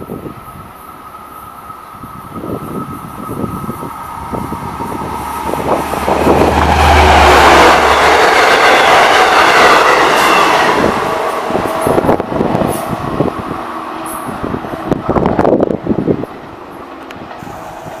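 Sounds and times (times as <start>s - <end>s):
locomotive engine hum: 0.0s - 18.0s
rush of train wheels: 0.0s - 18.0s.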